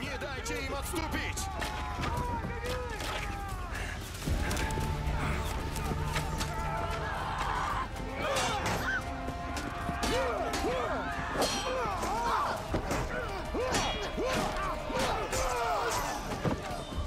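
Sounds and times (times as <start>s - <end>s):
men shouting battle cries: 0.0s - 17.0s.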